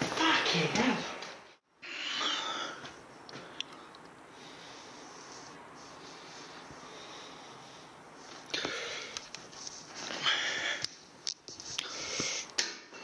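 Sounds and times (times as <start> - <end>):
person sniffing and breathing hard: 1.8 - 12.6.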